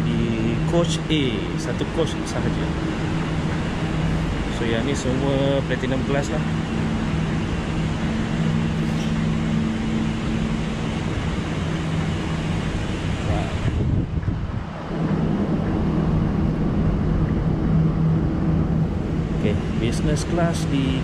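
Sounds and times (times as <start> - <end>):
train coach hum: 0.0 - 21.0.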